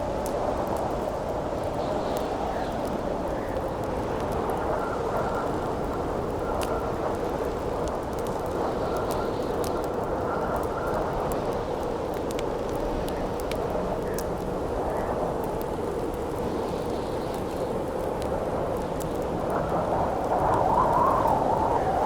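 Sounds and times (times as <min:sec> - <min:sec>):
campfire crackling and popping: 0:00.0 - 0:22.0
howling wind: 0:00.0 - 0:22.0.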